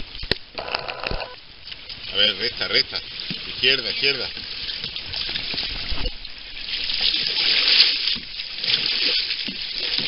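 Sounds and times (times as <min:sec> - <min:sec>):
kayak paddle splashing water: 0:00.0 - 0:10.0.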